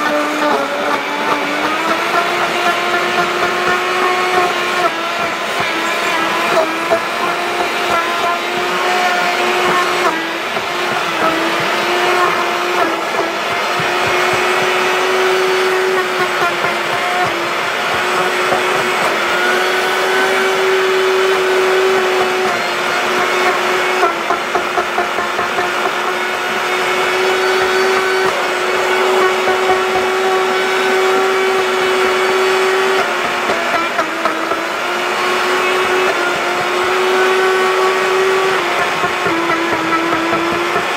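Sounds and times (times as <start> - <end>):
blender motor whine: 0.0 - 40.9.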